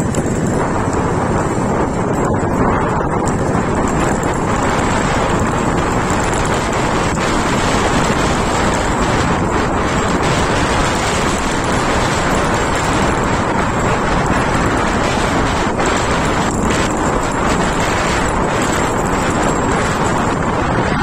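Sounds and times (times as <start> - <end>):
vehicle running noise: 0.0 - 21.0
wind rushing over microphone: 0.0 - 21.0.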